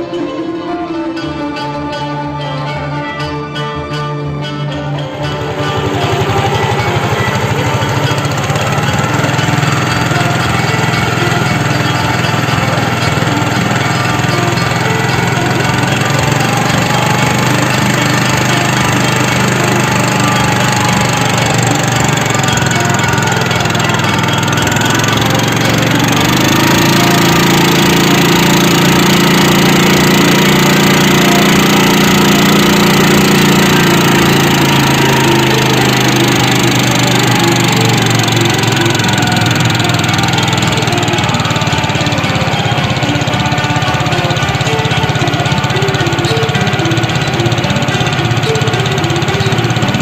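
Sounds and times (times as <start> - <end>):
small engine running: 0.0 - 50.0.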